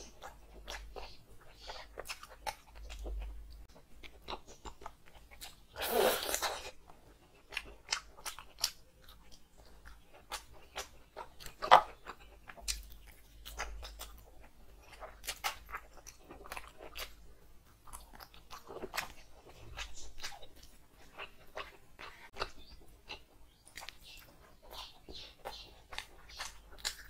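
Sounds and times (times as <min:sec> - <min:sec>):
person chewing crunchy food: 0:00.0 - 0:27.0.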